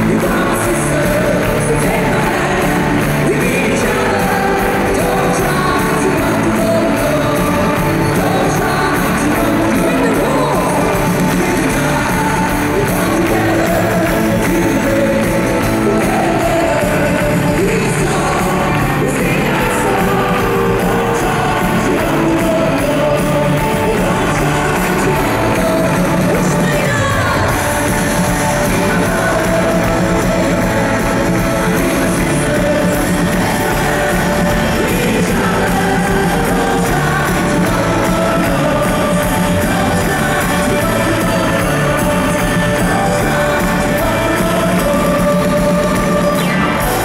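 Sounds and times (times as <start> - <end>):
live pop-rock band: 0.0 - 47.0
singer's amplified voice: 0.0 - 47.0.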